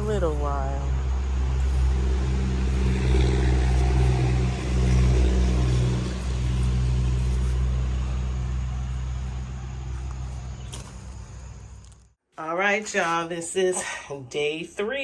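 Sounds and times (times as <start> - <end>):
engine low hum: 0.0 - 12.1.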